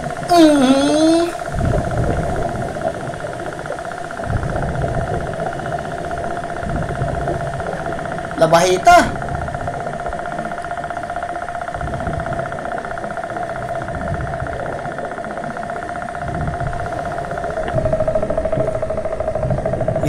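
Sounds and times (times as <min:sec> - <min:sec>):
droning engine hum with whine: 0:00.0 - 0:20.0
low uneven underwater rumble: 0:00.0 - 0:20.0.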